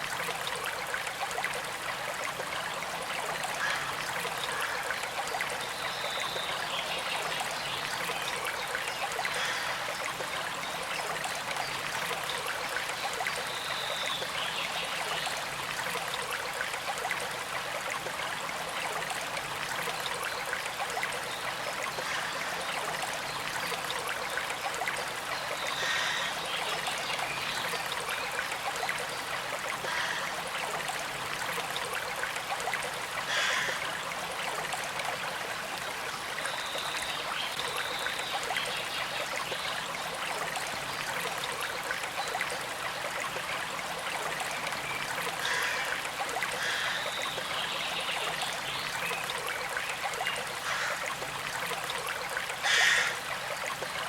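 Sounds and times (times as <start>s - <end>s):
gentle stream trickling: 0.0s - 54.0s.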